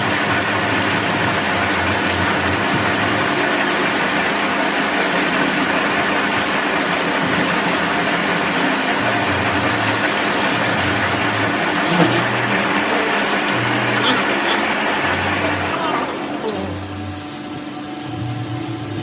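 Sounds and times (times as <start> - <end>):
machine running steadily: 0.0 - 19.0.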